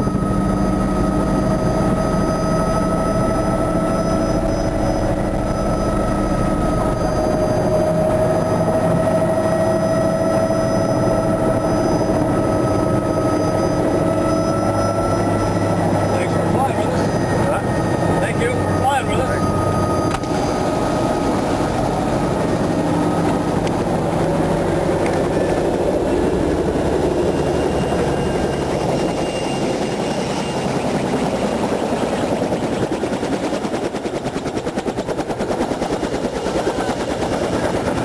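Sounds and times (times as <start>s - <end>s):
helicopter engine and rotor chop: 0.0s - 38.0s.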